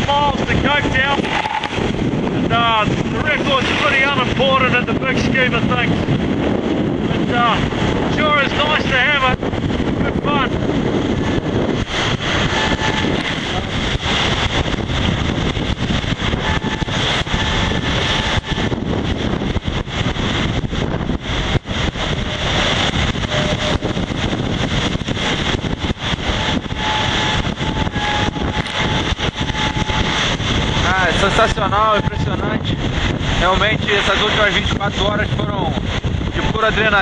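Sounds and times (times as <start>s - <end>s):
rushing water: 0.0s - 37.0s
wind buffeting microphone: 0.0s - 37.0s.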